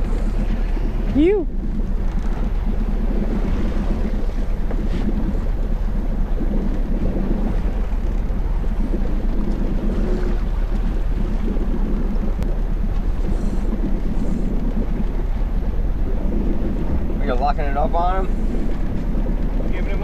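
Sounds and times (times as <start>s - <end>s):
boat engine running: 0.0s - 20.0s
water washing against hull: 0.0s - 20.0s
wind buffeting microphone: 0.0s - 20.0s.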